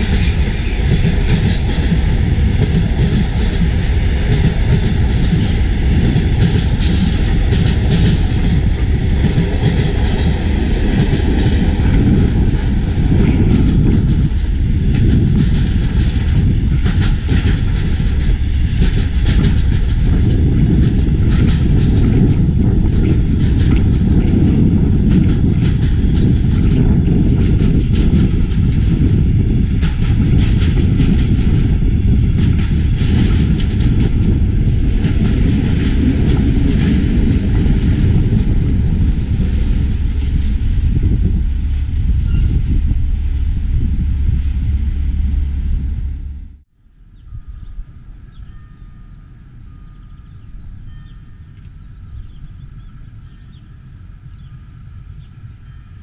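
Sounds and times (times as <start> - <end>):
wheels clacking over rails: 0.0 - 46.4
train engine rumble: 0.0 - 56.0.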